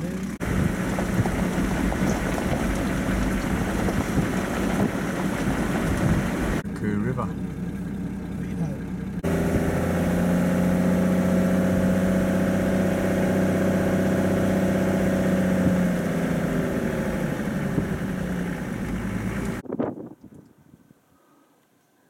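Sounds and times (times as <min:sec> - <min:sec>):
vehicle engine running: 0:00.0 - 0:19.6
tyres on dirt track: 0:00.0 - 0:20.5.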